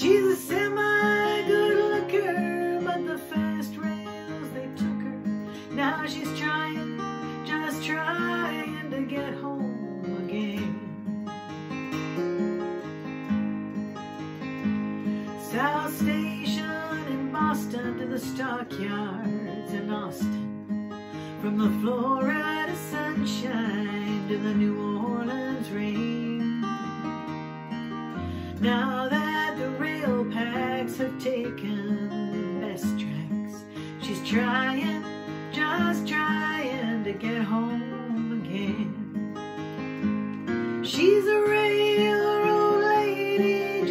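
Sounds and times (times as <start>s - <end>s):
woman singing: 0.0s - 11.2s, 15.2s - 27.1s, 28.1s - 39.6s, 40.5s - 43.9s
acoustic guitar: 0.0s - 43.9s.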